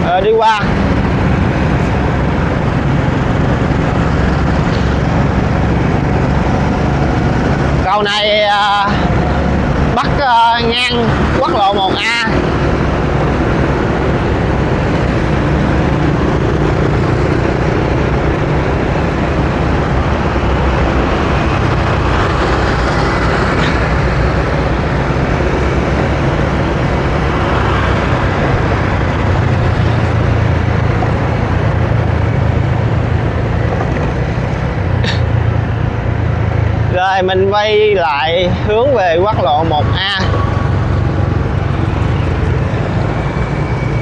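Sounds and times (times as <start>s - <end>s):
highway traffic noise: 0.0s - 44.0s.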